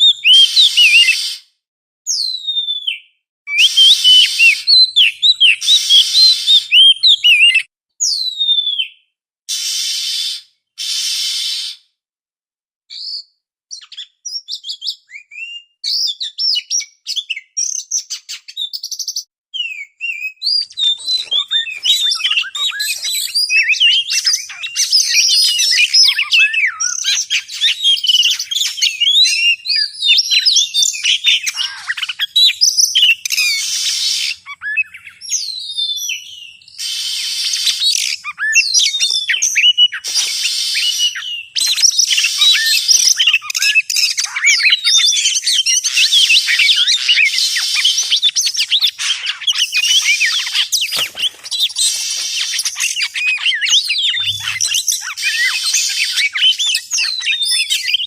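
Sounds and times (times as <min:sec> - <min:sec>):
magpie-robin whistles and chirps: 0:00.0 - 0:01.5, 0:02.1 - 0:11.9, 0:12.9 - 0:58.0.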